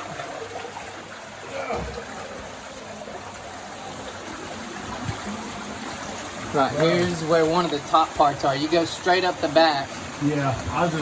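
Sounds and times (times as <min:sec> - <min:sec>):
water flowing and trickling: 0:00.0 - 0:11.0.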